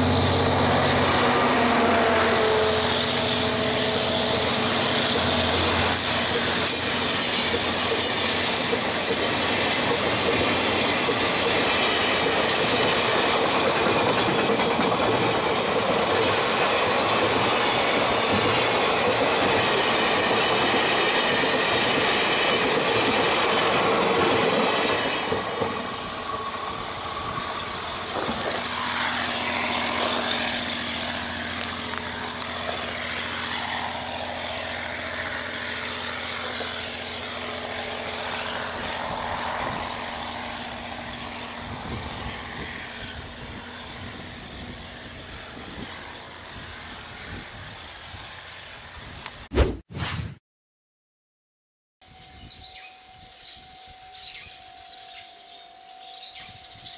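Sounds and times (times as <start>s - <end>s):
freight train wheels on rails: 0.0s - 49.3s.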